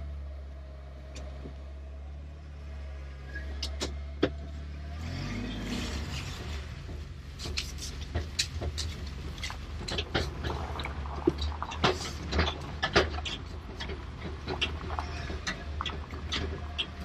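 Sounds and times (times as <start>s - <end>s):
car engine hum from inside cabin: 0.0s - 17.0s.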